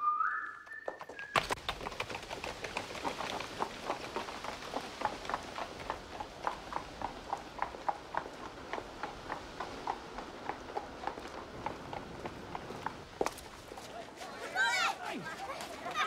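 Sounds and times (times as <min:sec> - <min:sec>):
horse hooves clip-clopping: 0:00.4 - 0:16.0.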